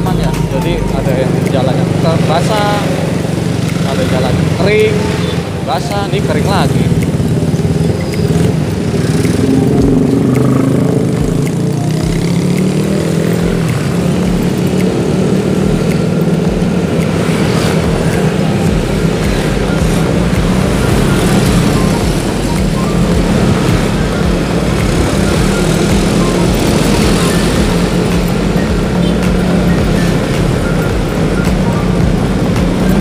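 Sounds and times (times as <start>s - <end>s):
road and wind noise: 0.0s - 33.0s
vehicle engine running: 0.0s - 33.0s.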